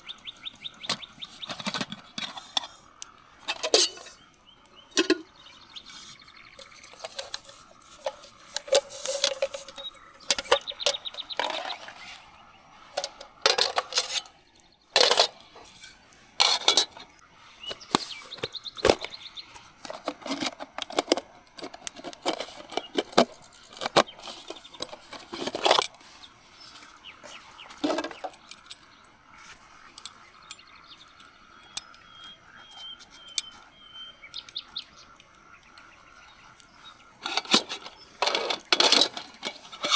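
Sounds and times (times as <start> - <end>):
camping gear clinking and rustling: 0.0 - 39.9.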